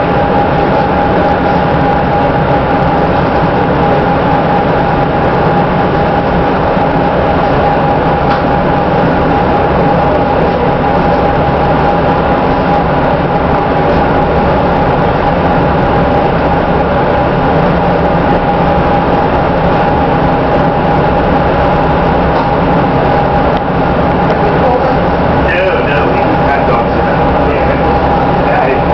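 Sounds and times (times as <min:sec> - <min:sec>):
thin steady whine: 0:00.0 - 0:28.9
train wheels rumbling on rails: 0:00.0 - 0:28.9.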